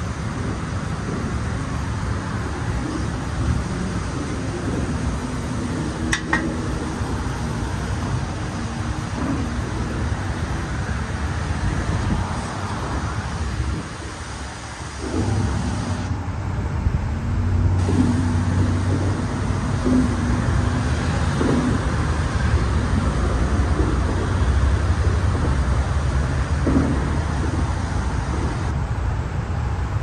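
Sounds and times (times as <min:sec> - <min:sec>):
car engines: 0:00.0 - 0:30.0
low engine hum: 0:00.0 - 0:30.0
tyres on road: 0:00.0 - 0:30.0.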